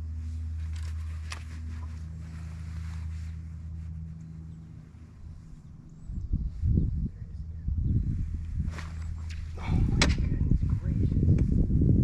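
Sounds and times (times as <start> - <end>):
boat motor humming: 0.0 - 11.1.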